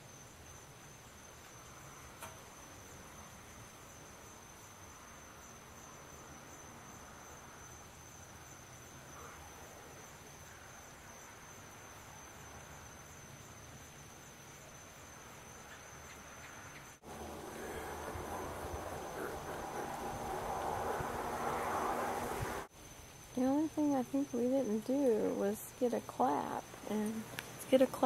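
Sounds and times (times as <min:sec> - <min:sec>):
crickets trilling: 0:00.0 - 0:28.0
faint background hiss: 0:00.0 - 0:28.0.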